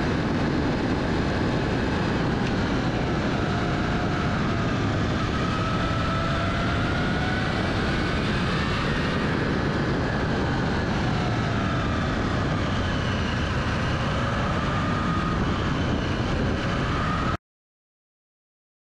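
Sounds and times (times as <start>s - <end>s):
motorcycle engine whine: 0.0s - 17.4s
wind and road noise: 0.0s - 17.4s.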